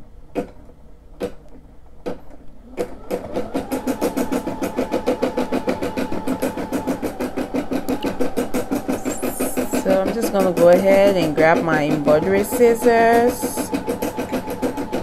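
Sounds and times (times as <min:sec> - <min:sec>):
motor hum: 0:02.4 - 0:15.0
embroidery machine stitching: 0:02.6 - 0:15.0.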